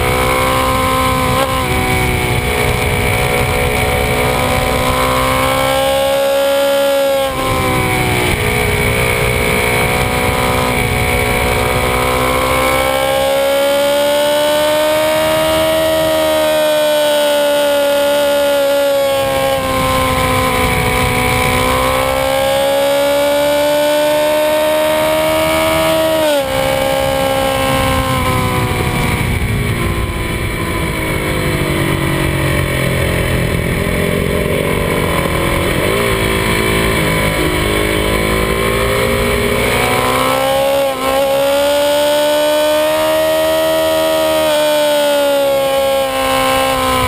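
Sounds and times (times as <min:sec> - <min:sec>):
motorcycle engine shifting gears: 0:00.0 - 0:47.0.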